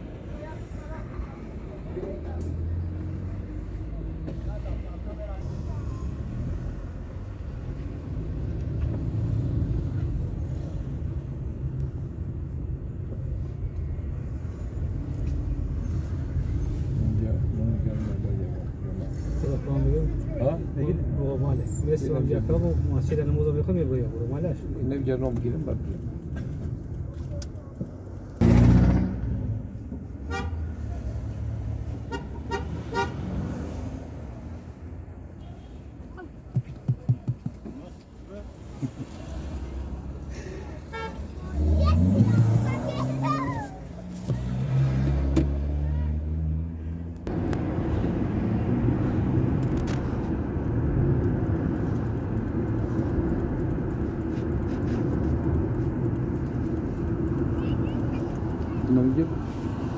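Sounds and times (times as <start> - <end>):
car engine and tyres rumbling: 0.0 - 59.9
street traffic: 0.0 - 59.9.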